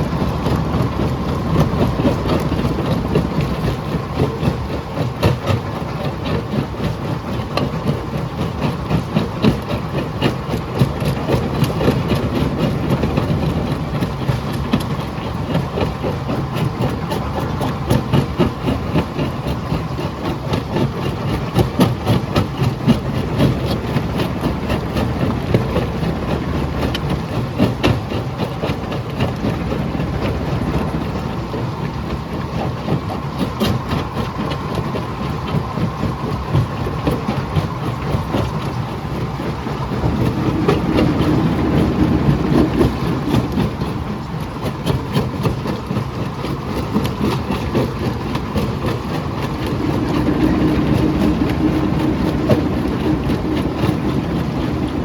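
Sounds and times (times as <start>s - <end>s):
jaw crusher droning: 0.0s - 55.0s.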